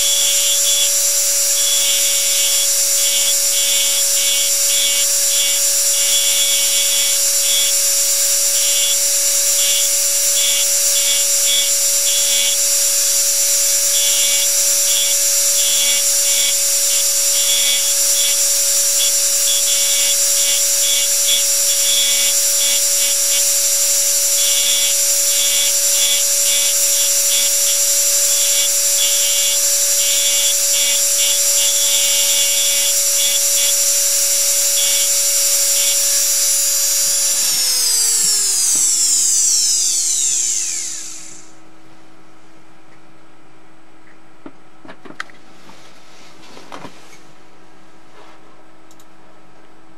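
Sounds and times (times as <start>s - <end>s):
engraving machine running: 0.0s - 41.5s.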